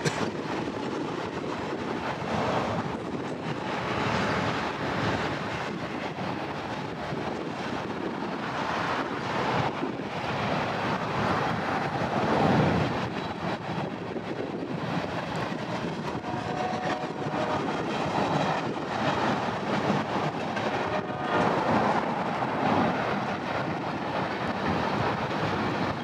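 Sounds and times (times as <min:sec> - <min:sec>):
freight train cars rumbling: 0:00.0 - 0:26.0.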